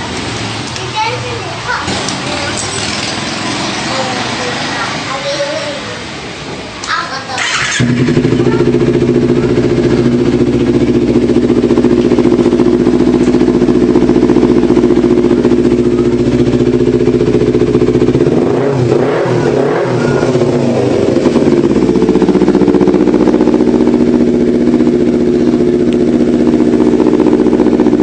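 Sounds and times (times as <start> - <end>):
motorcycle engine running: 0.0 - 5.8, 7.4 - 28.0.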